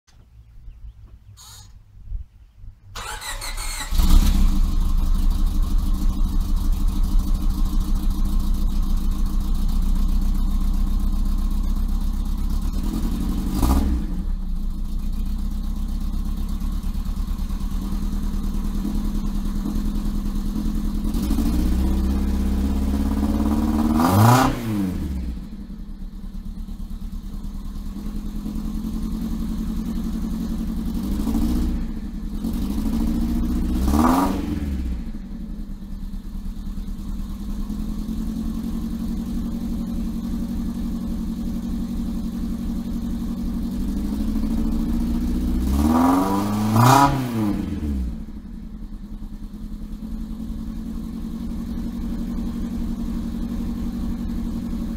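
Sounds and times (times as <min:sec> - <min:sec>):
car engine idling and revving: 0:00.1 - 0:54.9.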